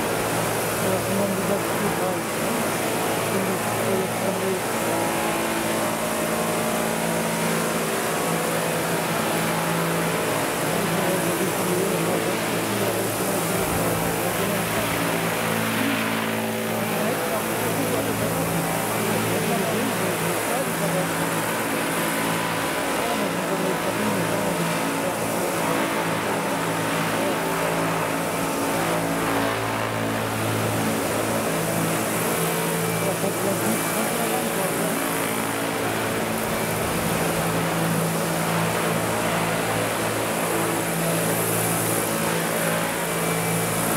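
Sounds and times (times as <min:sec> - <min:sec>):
model helicopter rotors droning: 0:00.0 - 0:43.9.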